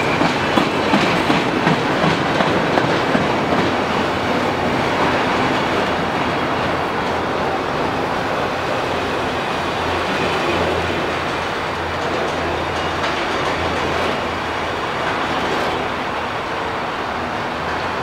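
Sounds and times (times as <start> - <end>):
steel wheels rolling on rail: 0.0 - 18.0.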